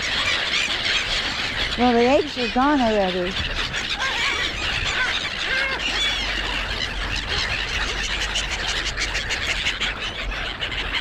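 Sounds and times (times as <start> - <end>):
gulls calling and squealing: 0.0 - 11.0.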